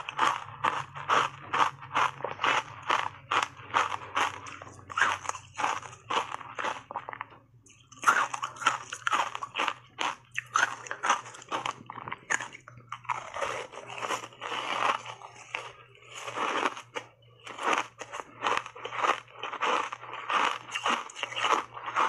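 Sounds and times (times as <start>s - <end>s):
ice crunching while chewed: 0.0s - 22.0s.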